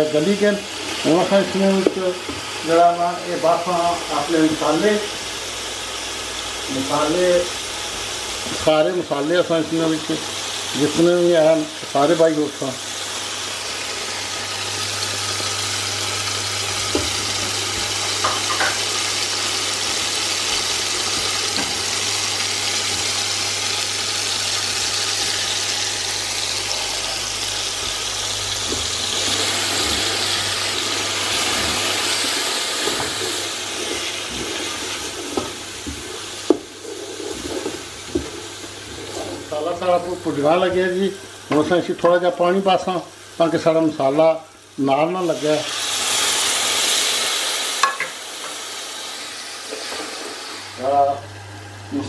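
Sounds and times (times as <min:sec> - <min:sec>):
food sizzling in oil: 0:00.0 - 0:52.0.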